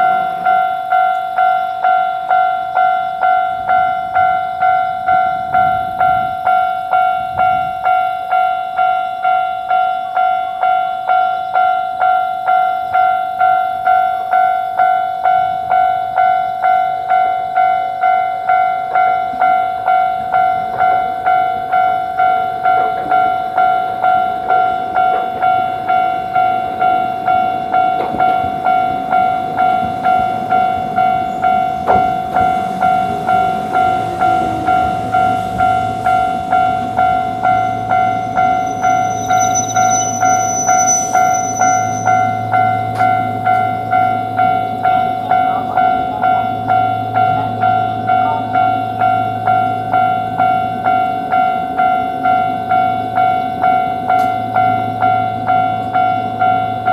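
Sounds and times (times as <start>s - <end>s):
railroad crossing bell ringing: 0.0s - 56.9s
train passing: 0.0s - 56.9s.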